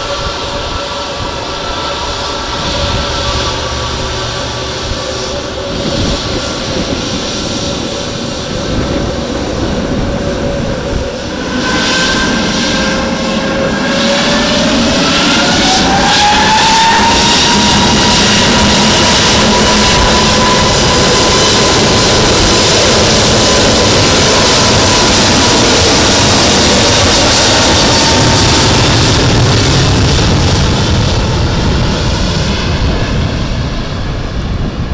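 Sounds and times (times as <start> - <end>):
jet engines spooling up: 0.0 - 34.9.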